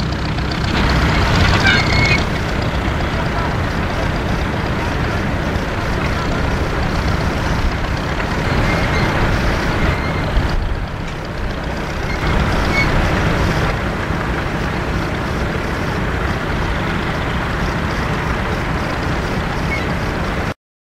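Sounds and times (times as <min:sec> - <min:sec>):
tractor engine running: 0:00.0 - 0:20.6.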